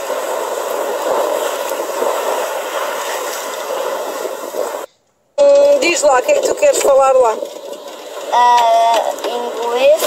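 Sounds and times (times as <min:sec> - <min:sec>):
water rushing: 0:00.0 - 0:10.0
wind: 0:00.0 - 0:10.0.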